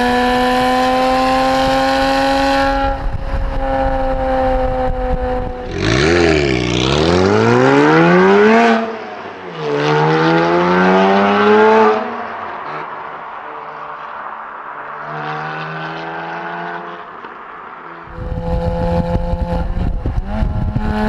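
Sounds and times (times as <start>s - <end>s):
car engine accelerating: 0.0s - 13.9s, 17.9s - 21.0s.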